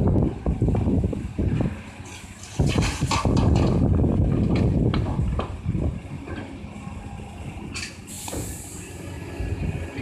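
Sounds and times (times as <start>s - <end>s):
wind buffeting microphone: 0.0s - 7.7s, 8.4s - 10.0s
diesel engine rumbling: 0.0s - 10.0s.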